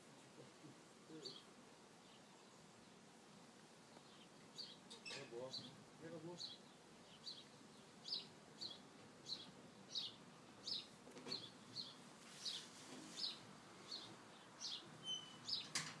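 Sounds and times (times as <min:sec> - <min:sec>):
bird chirping: 0:01.1 - 0:02.9, 0:03.9 - 0:15.8.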